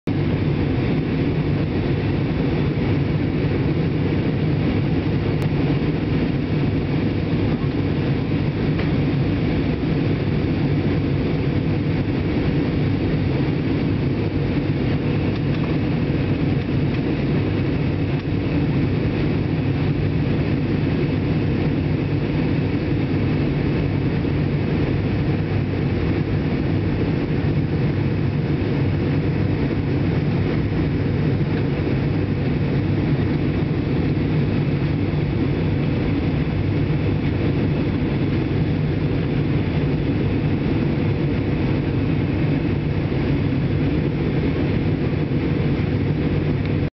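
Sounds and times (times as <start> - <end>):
airliner cabin engine drone: 0.1 - 46.9
steady hum tones: 0.1 - 46.9.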